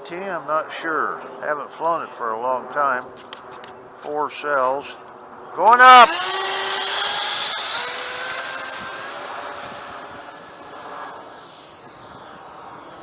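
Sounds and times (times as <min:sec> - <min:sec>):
electric ducted fan whine: 0:00.0 - 0:13.0.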